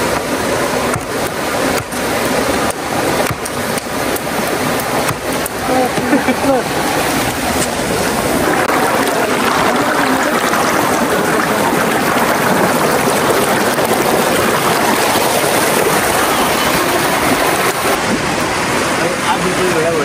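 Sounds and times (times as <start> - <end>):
stream rushing over boulders: 0.0 - 20.0.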